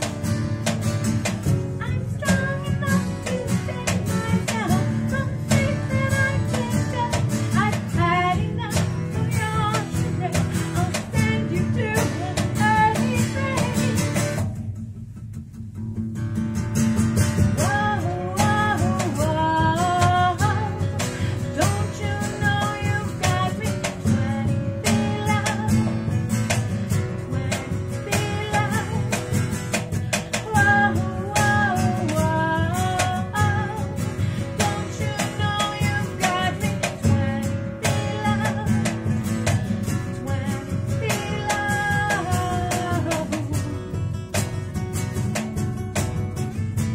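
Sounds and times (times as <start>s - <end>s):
woman singing: 0.0s - 14.6s, 17.4s - 45.8s
acoustic guitars playing: 0.0s - 46.9s.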